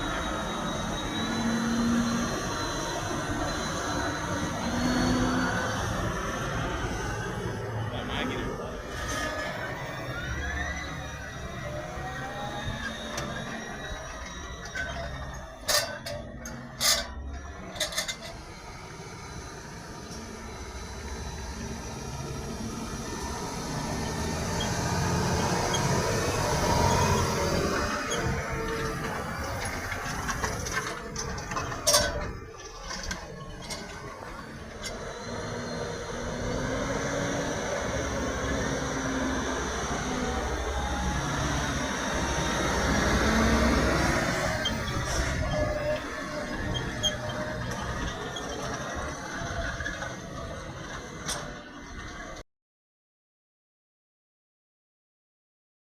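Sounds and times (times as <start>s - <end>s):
distant tractor engines humming: 0.0s - 52.4s.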